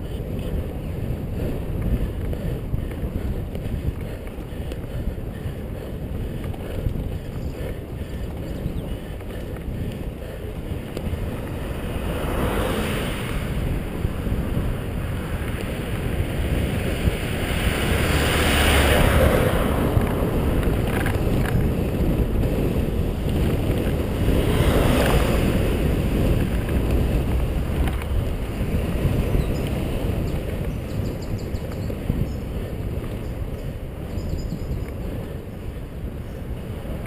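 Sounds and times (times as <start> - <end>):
road noise: 0.0 - 37.0
wind on microphone: 0.0 - 37.0.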